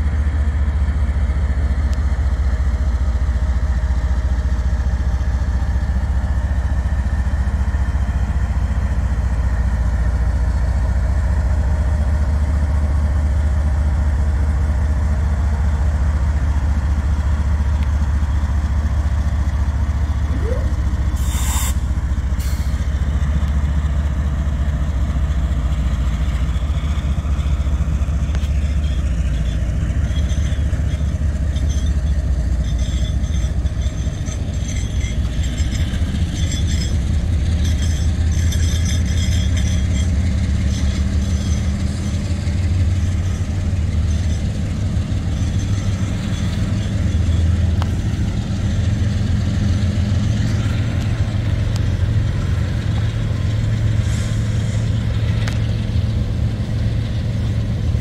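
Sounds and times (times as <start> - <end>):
freight train diesel rumble: 0.0 - 58.0.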